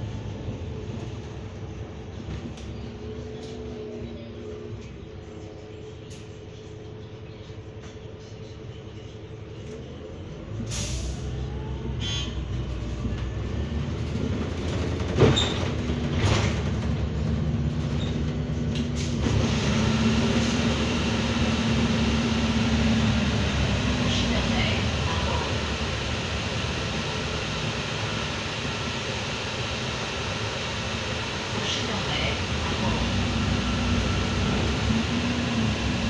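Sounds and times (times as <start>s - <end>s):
bus drivetrain hum and whine: 0.0s - 36.0s.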